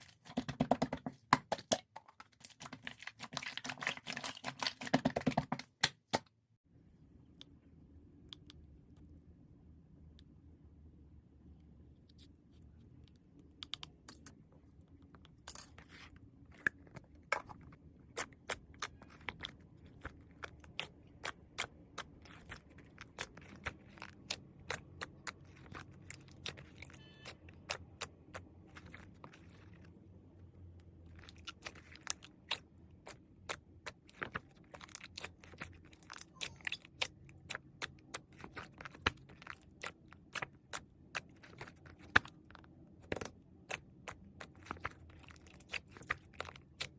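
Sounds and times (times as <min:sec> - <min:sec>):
faint low hum: 0:06.7 - 0:46.9.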